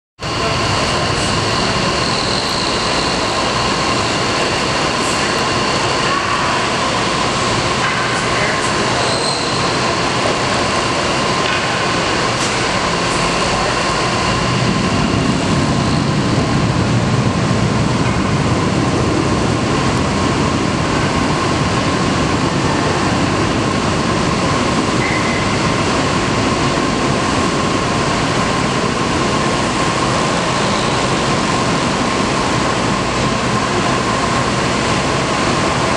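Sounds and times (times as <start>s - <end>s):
steady rushing noise: 0.2s - 35.9s.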